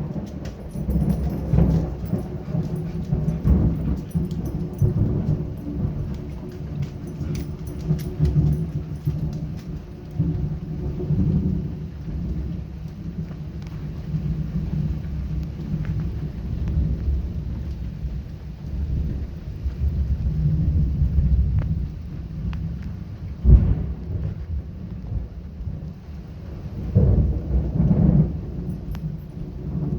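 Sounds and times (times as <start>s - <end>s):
loud thunderclap: 0.0s - 29.9s
steady rain: 0.0s - 29.9s
thunder rumbling: 0.0s - 29.9s.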